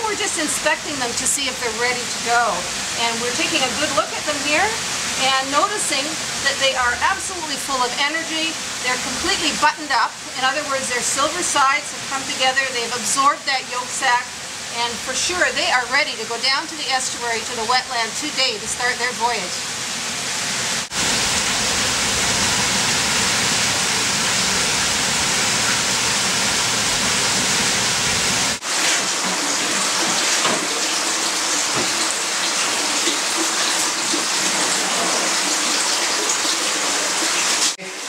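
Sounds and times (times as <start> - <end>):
running water rushing: 0.0 - 38.0.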